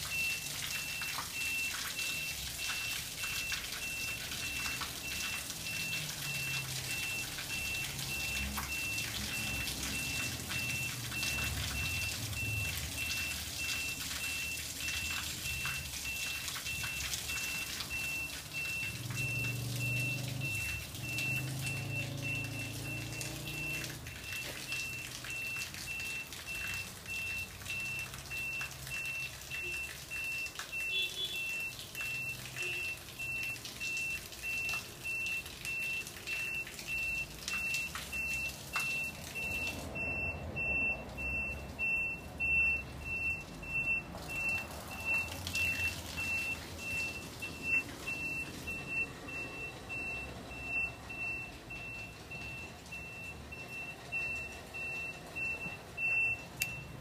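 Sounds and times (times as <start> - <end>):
faint water splashing: 0.0 - 57.0.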